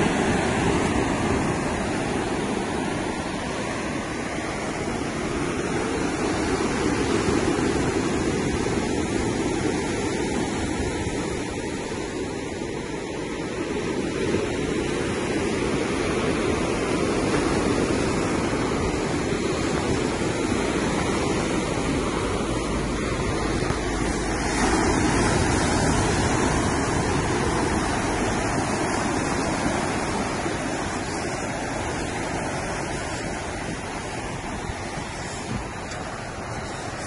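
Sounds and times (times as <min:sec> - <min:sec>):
sea surf washing on shore: 0:00.0 - 0:37.0
wind on microphone: 0:00.0 - 0:37.0.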